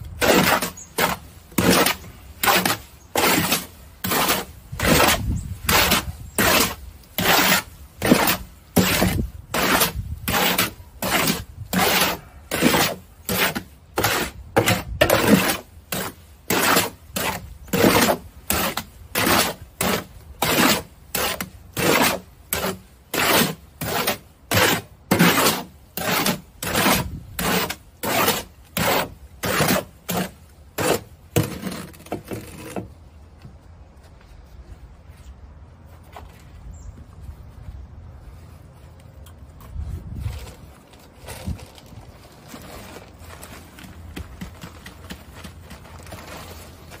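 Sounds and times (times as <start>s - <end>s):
shovel scraping sand in wheelbarrow: 0.0s - 33.0s, 39.7s - 47.0s.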